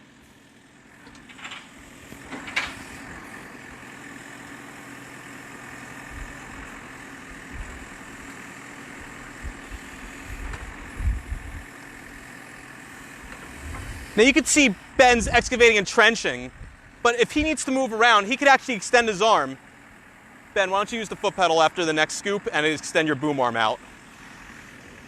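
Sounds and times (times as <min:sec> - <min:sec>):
backhoe engine running: 0:00.0 - 0:25.0.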